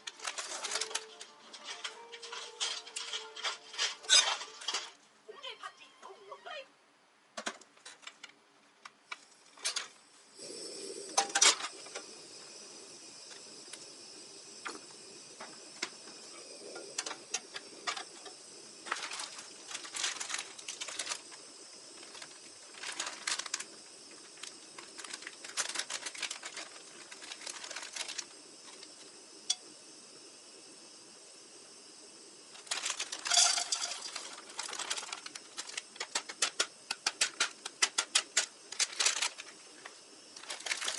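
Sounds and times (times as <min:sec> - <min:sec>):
steady faint hiss: 0:00.0 - 0:40.9.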